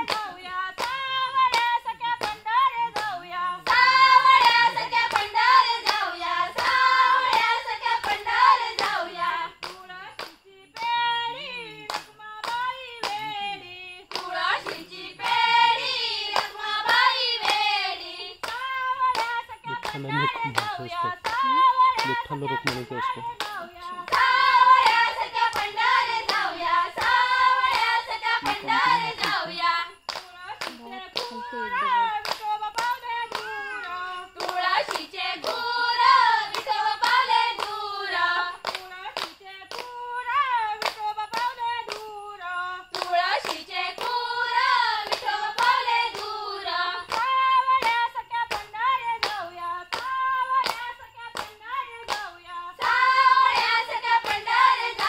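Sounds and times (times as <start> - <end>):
hand claps: 0.0 - 55.0
women singing together: 0.0 - 55.0.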